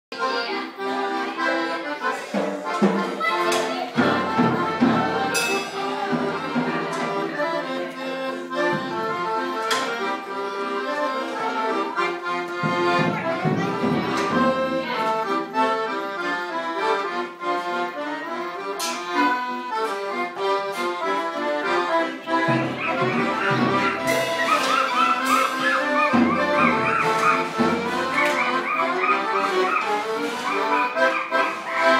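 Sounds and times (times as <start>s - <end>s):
accordion playing lively tune: 0.1s - 31.9s.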